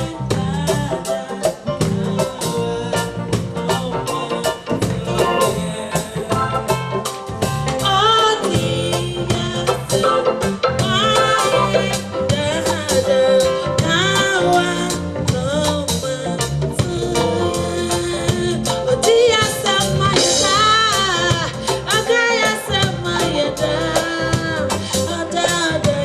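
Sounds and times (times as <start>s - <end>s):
live band music: 0.0s - 26.0s
person singing: 0.0s - 26.0s
steady drum beat: 0.0s - 26.0s.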